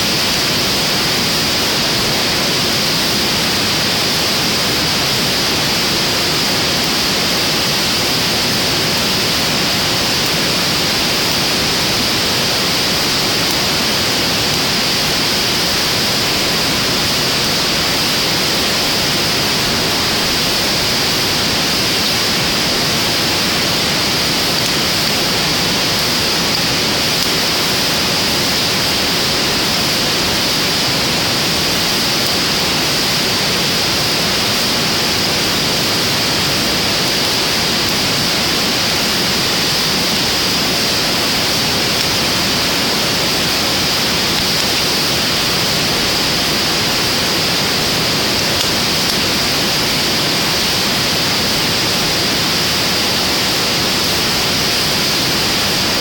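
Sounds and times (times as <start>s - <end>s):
fire burning with hiss: 0.0s - 56.0s.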